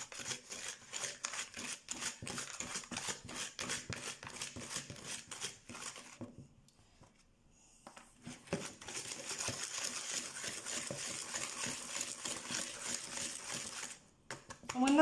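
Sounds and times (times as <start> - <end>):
whisk scratching in a bowl: 0.0 - 6.2, 8.2 - 15.0.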